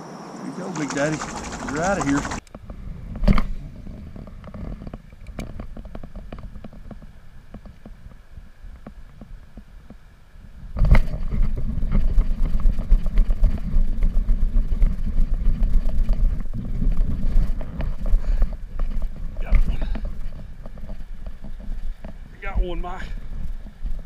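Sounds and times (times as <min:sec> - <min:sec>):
wind buffeting microphone: 0:00.6 - 0:24.0.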